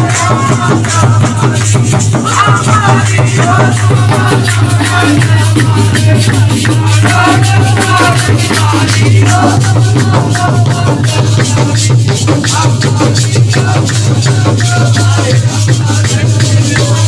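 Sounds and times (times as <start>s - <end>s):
fast rattling percussion: 0.0s - 17.0s.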